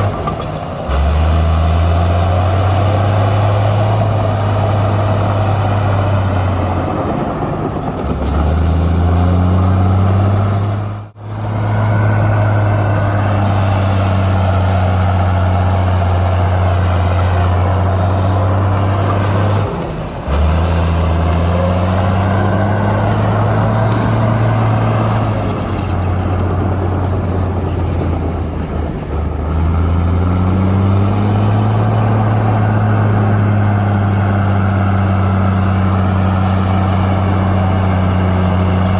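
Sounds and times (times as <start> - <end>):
heavy diesel engine running hard: 0.0 - 38.9.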